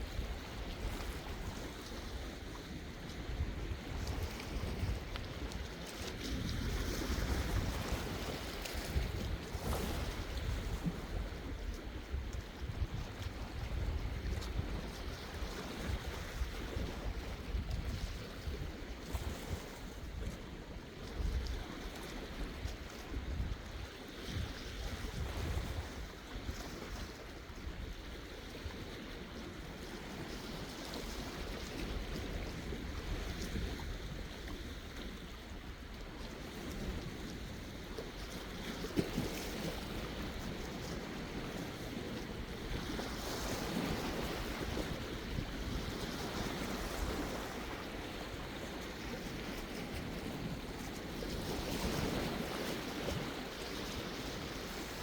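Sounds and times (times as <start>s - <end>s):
sea waves washing ashore: 0.0s - 55.0s
wind rumble on microphone: 0.0s - 55.0s.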